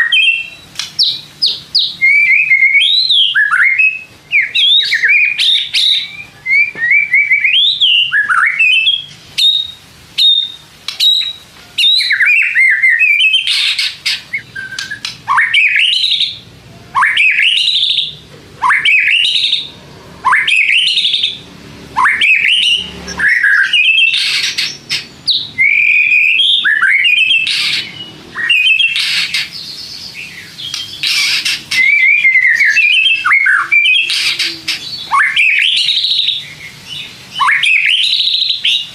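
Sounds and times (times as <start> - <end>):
bird singing whistles: 0.0 - 16.4, 17.0 - 21.4, 22.0 - 38.9.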